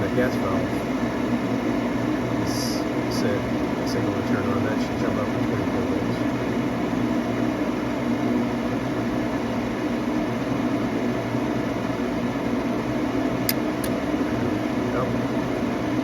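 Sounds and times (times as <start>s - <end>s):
furnace inducer motor humming: 0.0s - 16.0s.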